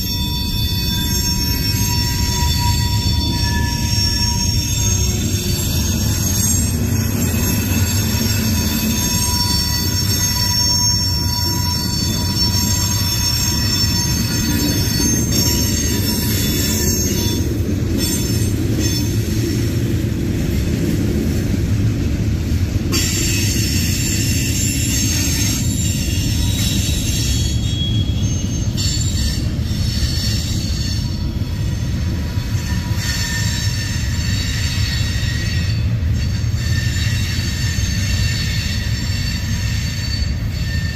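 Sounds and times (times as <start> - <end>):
wheel flange squeal: 0.0 - 19.6, 22.9 - 40.9
freight cars rumbling on rails: 0.0 - 40.9.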